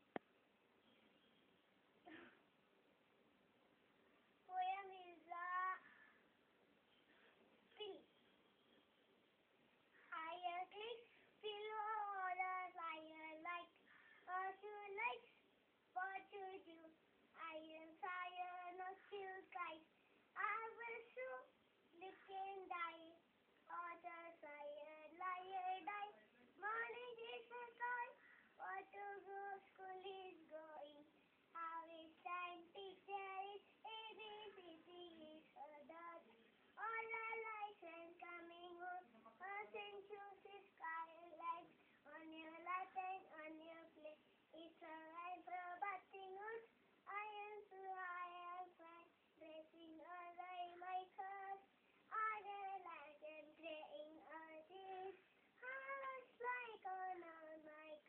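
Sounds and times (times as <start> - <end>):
girl singing: 4.4 - 6.1, 10.0 - 58.0.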